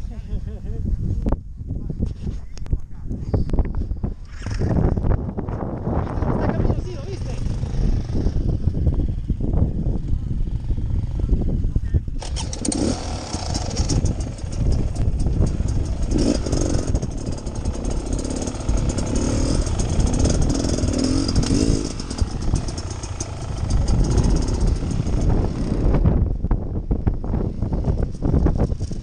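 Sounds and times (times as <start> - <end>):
dirt bike engine running: 3.5 - 29.0.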